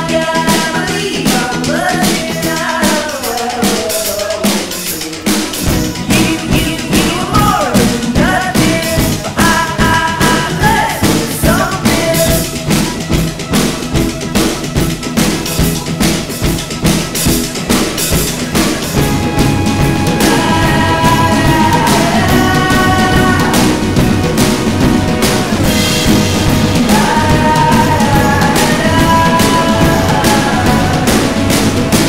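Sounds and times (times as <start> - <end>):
fast drum beat: 0.0 - 32.0
indie rock music: 0.0 - 32.0.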